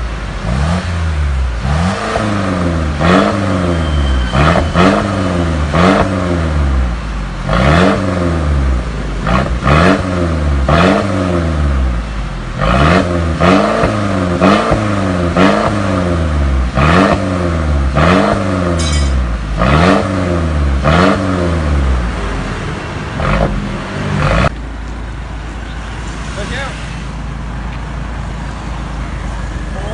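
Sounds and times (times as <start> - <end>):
car engine revving: 0.0 - 24.6.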